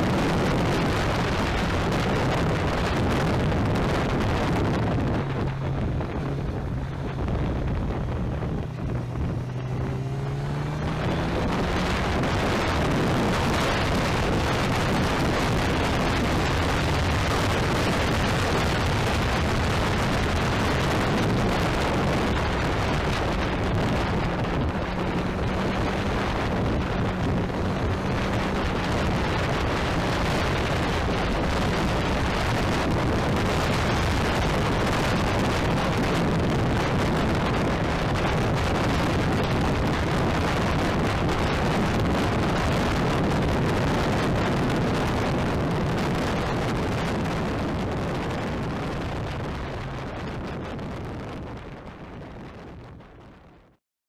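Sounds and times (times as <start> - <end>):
motorcycle engine cruising: 0.0 - 53.0
wind rush on microphone: 0.0 - 53.8.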